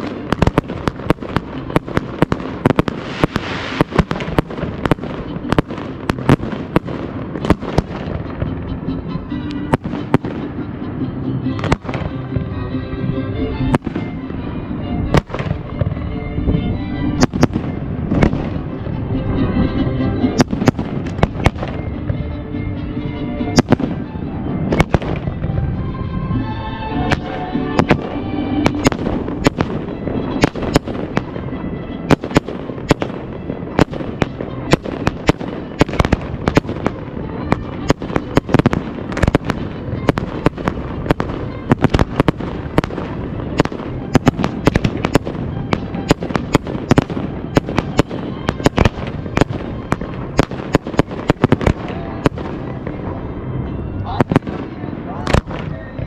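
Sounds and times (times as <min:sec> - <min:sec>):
fireworks bursting: 0:00.0 - 0:22.3, 0:23.4 - 0:26.0, 0:26.9 - 0:56.0
music playing: 0:00.0 - 0:56.0.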